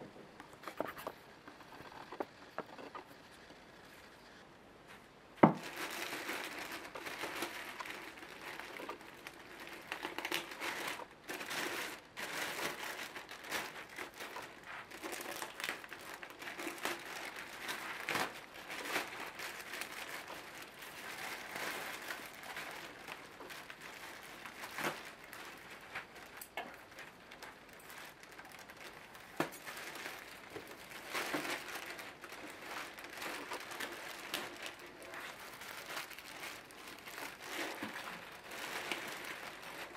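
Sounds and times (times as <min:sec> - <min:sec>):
plastic wrapping crinkling: 0:05.4 - 0:39.9.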